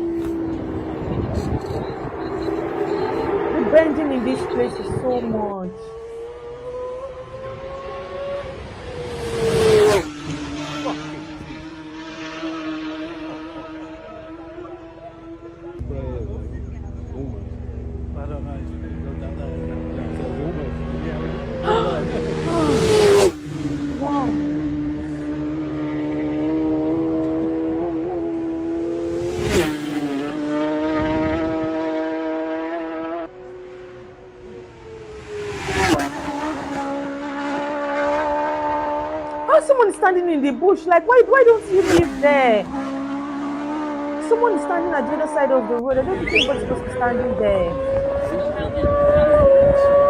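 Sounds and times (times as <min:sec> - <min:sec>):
racing motorcycle passing: 0:00.0 - 0:50.0.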